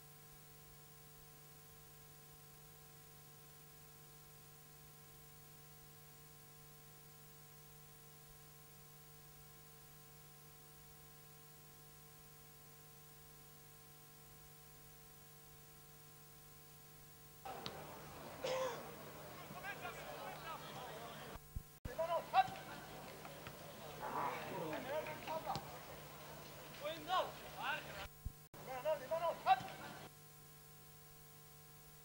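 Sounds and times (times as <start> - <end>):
faint electrical hum with hiss: 0.0 - 32.0.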